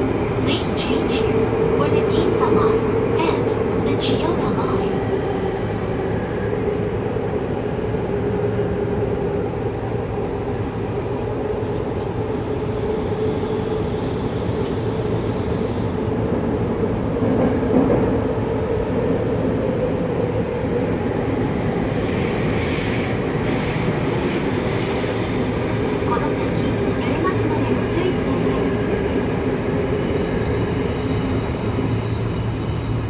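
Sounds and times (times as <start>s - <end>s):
train rolling rumble: 0.0s - 33.0s.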